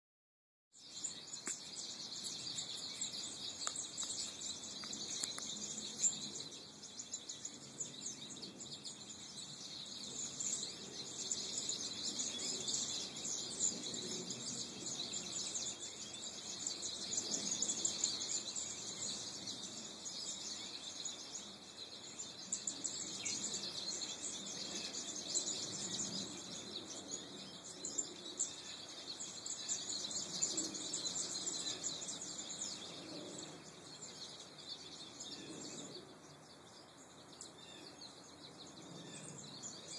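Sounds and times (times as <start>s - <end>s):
goldfinches twittering: 0.8s - 39.9s.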